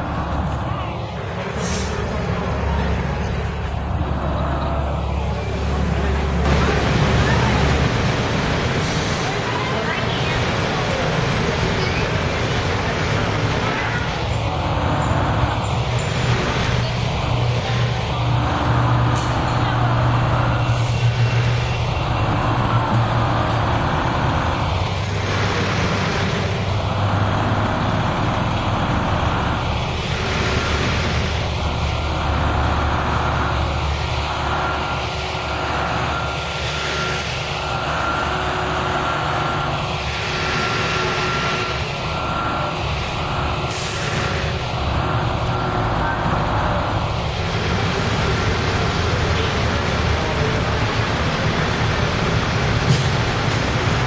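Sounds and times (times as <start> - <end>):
bus engines rumbling: 0.0 - 54.0
whooshing of passing buses: 0.0 - 54.0.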